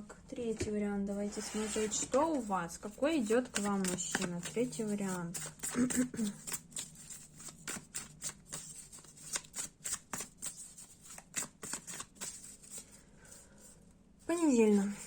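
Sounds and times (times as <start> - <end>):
cards being shuffled: 1.3 - 13.4.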